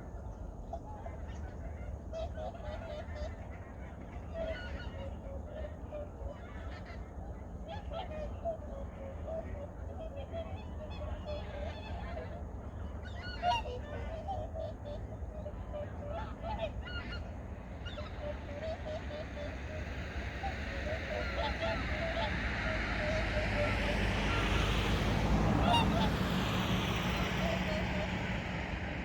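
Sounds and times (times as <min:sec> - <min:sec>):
geese honking: 0:00.7 - 0:29.0.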